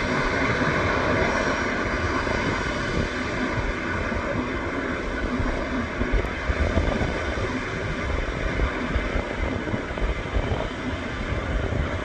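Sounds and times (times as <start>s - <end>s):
jet engines roaring: 0.0s - 12.0s
wind rumble on microphone: 0.0s - 12.0s.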